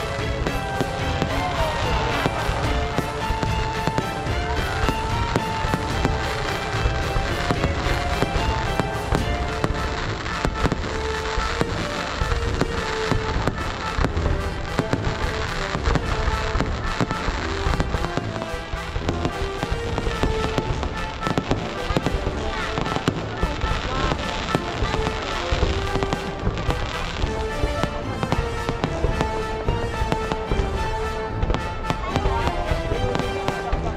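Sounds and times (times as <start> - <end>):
fireworks bangs: 0.0 - 33.9
music playing: 0.0 - 33.9.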